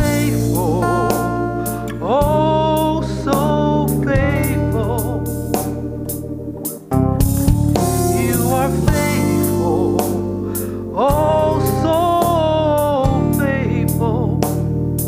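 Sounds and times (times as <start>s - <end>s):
drums: 0.0s - 2.5s, 3.3s - 12.4s, 14.4s - 15.0s
woman singing gospel: 0.0s - 5.6s, 7.9s - 14.5s
instrumental accompaniment: 0.0s - 15.0s.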